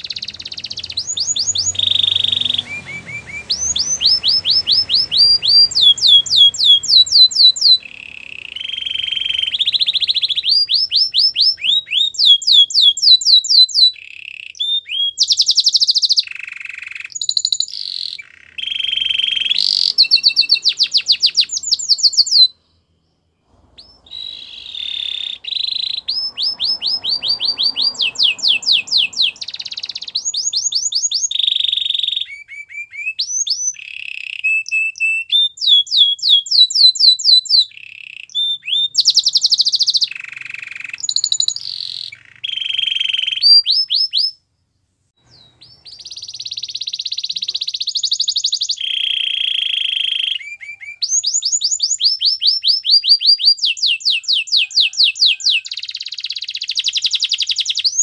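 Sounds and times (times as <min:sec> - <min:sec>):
canary singing trills: 0:00.0 - 0:44.5, 0:45.2 - 0:58.0.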